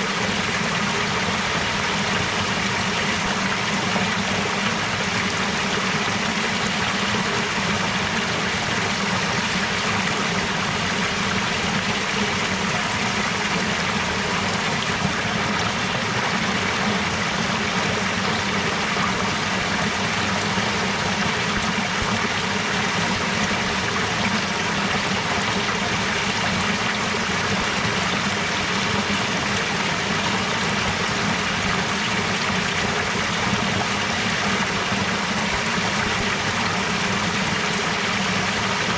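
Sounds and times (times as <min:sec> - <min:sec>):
stream flowing steadily: 0:00.0 - 0:38.9.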